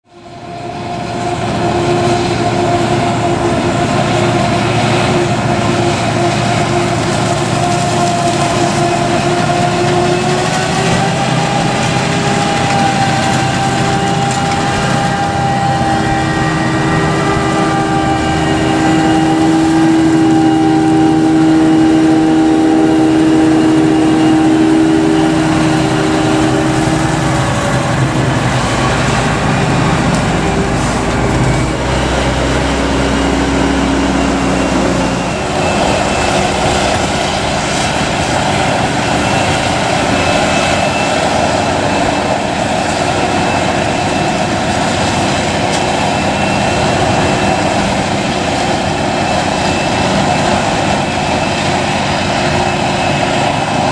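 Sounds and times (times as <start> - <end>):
forage harvester chopping with whine: 0.4 - 53.9.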